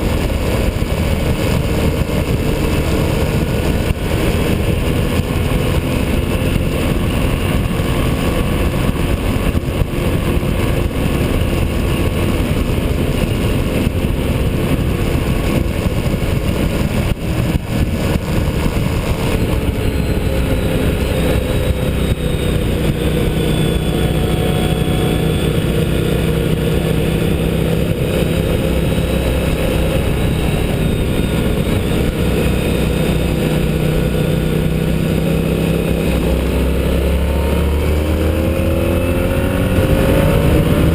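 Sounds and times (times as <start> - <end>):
constant rushing noise: 0.0 - 40.9
motorcycle engine revving: 0.0 - 40.9.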